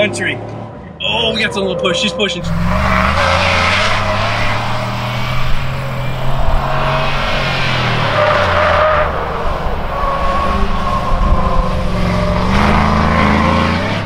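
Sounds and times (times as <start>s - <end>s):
tires squealing: 0.0s - 14.0s
engine running under load: 2.4s - 14.0s.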